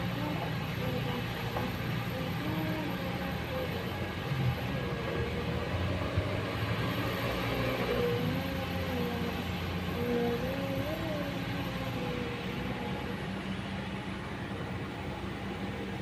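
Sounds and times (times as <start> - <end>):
hydraulic excavator running: 0.0 - 16.0
wavering high whine: 0.0 - 16.0.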